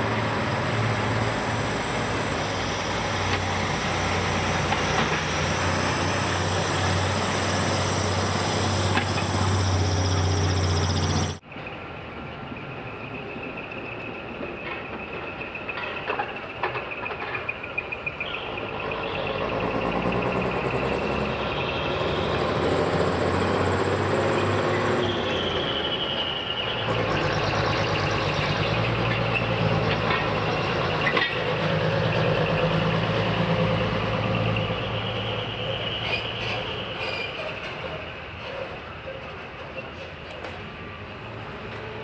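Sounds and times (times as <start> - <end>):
truck diesel engine passing: 0.0 - 11.8, 18.1 - 42.0.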